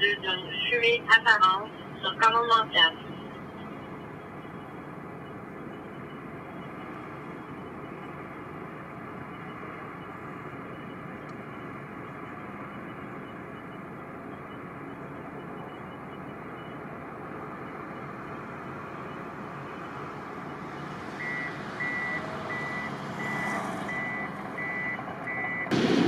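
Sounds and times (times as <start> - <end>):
heavy machinery engine rumble: 0.0 - 26.0.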